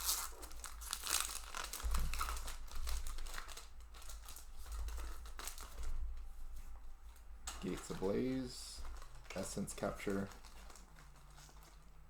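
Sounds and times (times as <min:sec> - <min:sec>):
foil wrapper crinkling: 0:00.0 - 0:06.2, 0:07.0 - 0:12.0.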